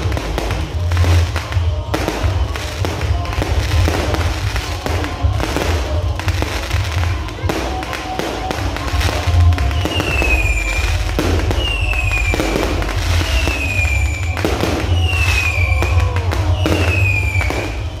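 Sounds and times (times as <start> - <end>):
falling firework whistle: 0.0 - 18.0
fireworks bangs and crackle: 0.0 - 18.0.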